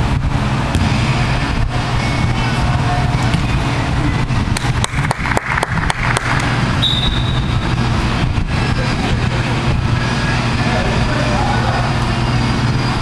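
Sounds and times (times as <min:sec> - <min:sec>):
indoor arena rumble: 0:00.0 - 0:13.0.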